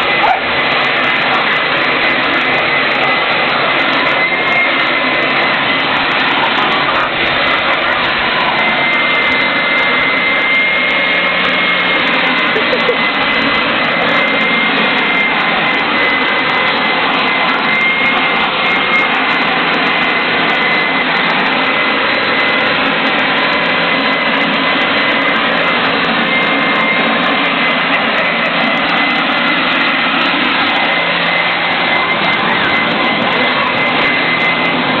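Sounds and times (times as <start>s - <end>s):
leaf blower running: 0.0s - 35.0s.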